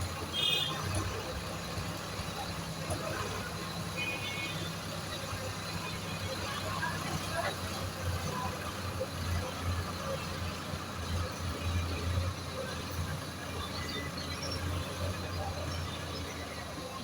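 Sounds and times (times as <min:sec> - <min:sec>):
tractor engine drone: 0:00.0 - 0:17.0.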